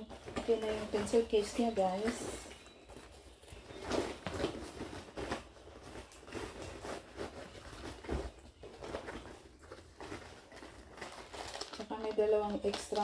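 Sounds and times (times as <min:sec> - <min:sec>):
rustling of fabric backpack: 0:00.0 - 0:13.0.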